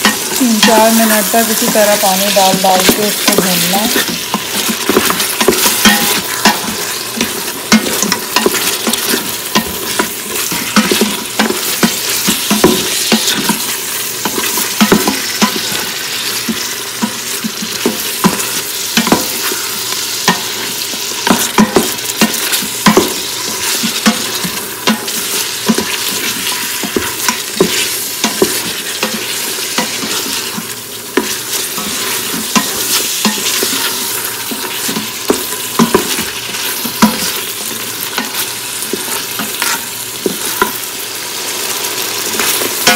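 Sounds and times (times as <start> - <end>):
spoon scraping and knocking a pot: 0.0 - 40.9, 41.7 - 42.9
meat sizzling in a pot: 0.0 - 42.9.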